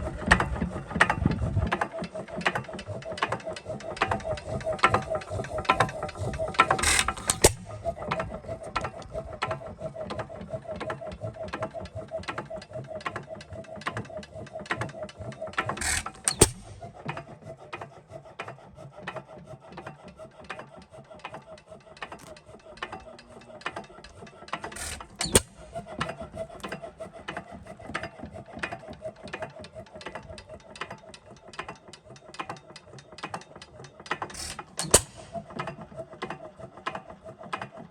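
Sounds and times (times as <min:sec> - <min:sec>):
fast clicking of moving parts: 0:00.0 - 0:37.9.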